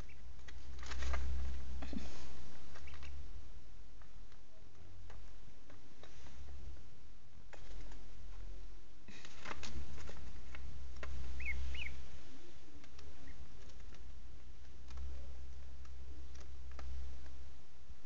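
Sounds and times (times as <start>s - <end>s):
ducklings peeping: 0.0s - 8.5s, 9.2s - 17.5s
steady low hum: 0.0s - 18.0s.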